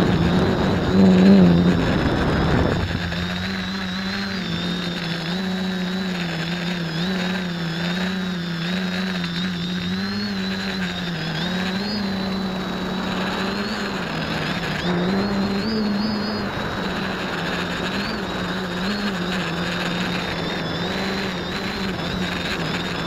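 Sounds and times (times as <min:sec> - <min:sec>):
quadcopter propellers whirring: 0:00.0 - 0:23.0.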